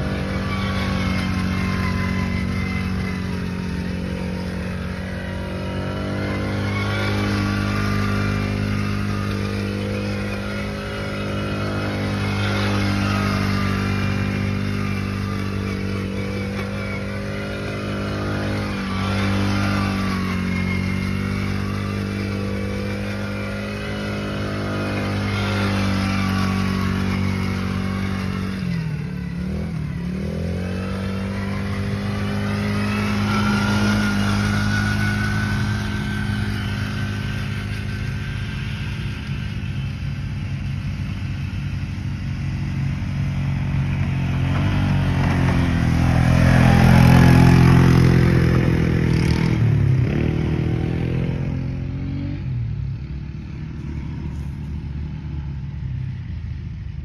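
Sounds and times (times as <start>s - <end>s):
steady small engine running: 0.0s - 50.3s
quad engine rising and falling: 0.0s - 57.0s.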